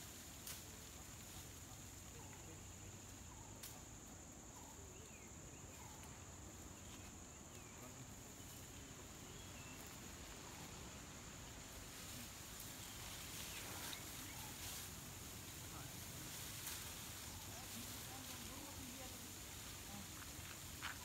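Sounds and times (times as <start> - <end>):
faint chirps: 0.7 - 21.0.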